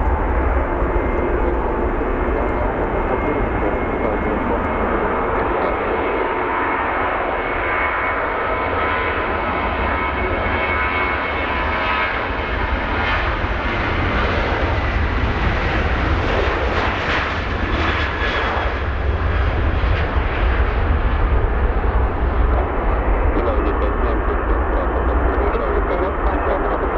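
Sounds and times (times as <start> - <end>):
jet engines at takeoff thrust: 0.0 - 26.9
jet noise with fan whine: 0.0 - 26.9.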